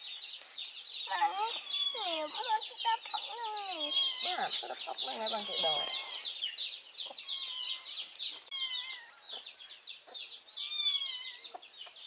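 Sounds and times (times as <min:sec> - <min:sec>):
steady high chirping: 0:00.0 - 0:12.0.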